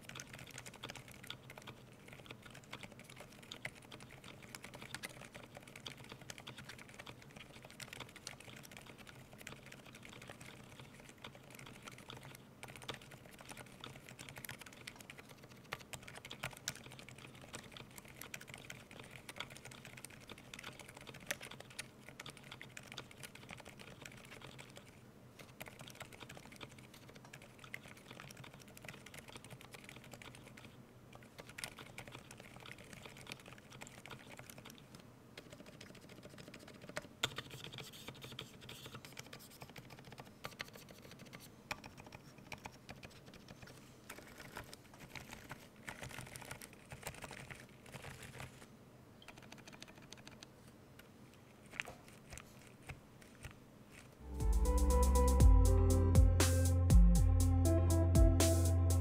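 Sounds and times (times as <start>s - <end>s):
muffled keyboard typing: 0.0s - 55.7s.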